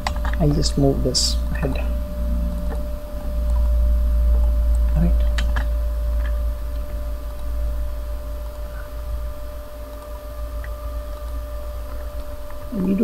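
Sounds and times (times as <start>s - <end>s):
electrical hum and hiss: 0.0s - 13.0s
faint steady tone: 0.0s - 13.0s.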